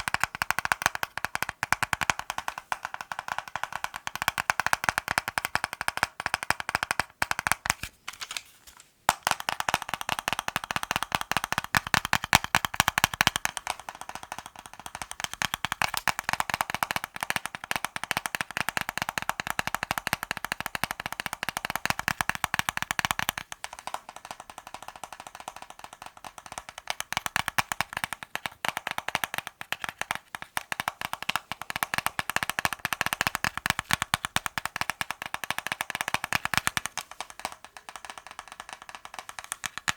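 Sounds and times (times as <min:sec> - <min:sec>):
rapid light tapping: 0:00.0 - 0:07.9, 0:08.7 - 0:39.9.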